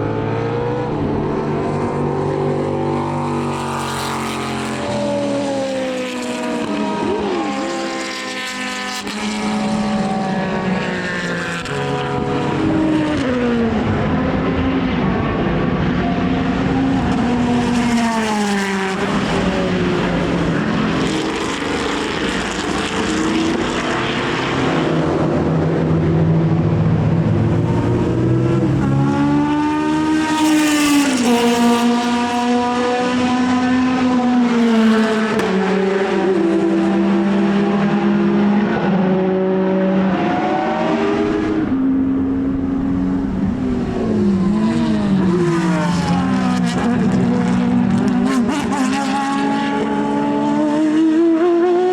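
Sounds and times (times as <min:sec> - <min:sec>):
racing car engines: 0:00.0 - 0:51.9.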